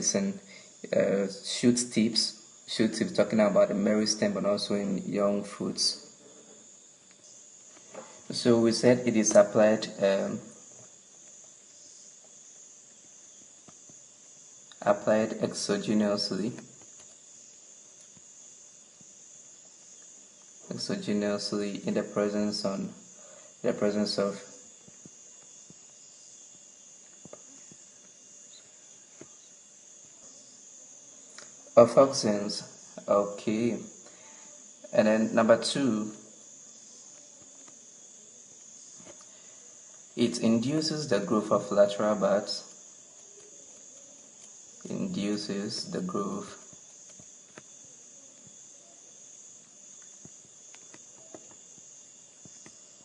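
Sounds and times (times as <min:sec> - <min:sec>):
faint high-pitched hiss: 0:00.0 - 0:53.0.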